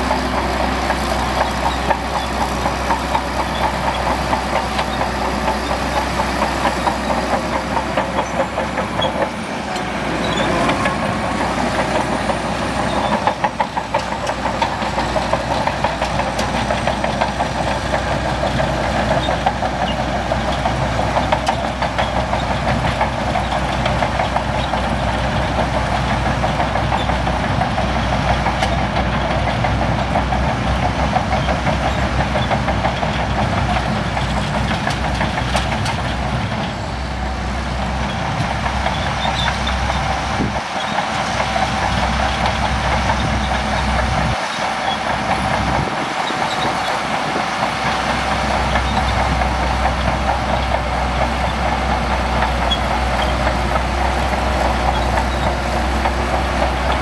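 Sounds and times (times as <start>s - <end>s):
bulldozer diesel engine running: 0.0s - 57.0s
metallic clatter of steel tracks: 0.0s - 57.0s.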